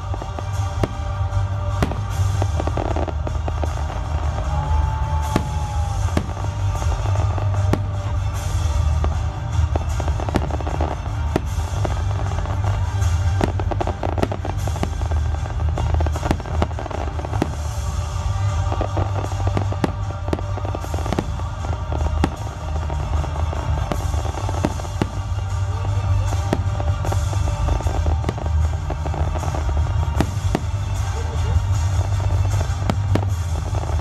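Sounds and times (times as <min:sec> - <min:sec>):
continuous low rumble: 0:00.0 - 0:34.0
fireworks bangs and crackles: 0:00.0 - 0:34.0.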